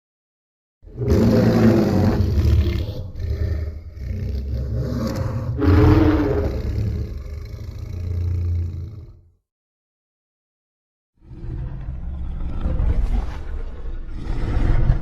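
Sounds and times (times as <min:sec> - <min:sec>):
deep rumbling monster roar: 0:00.8 - 0:09.3, 0:11.2 - 0:15.0.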